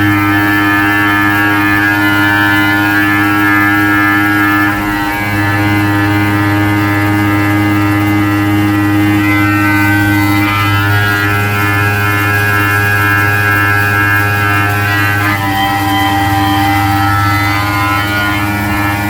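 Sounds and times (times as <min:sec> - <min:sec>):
milling machine whine: 0:00.0 - 0:19.0.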